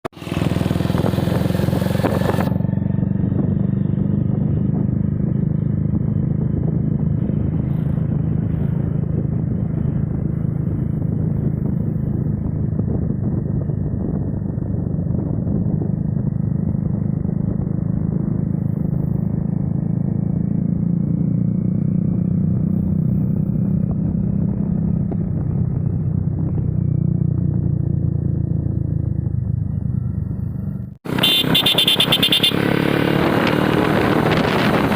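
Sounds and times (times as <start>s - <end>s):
motorcycle engine rumbling: 0.1s - 34.9s.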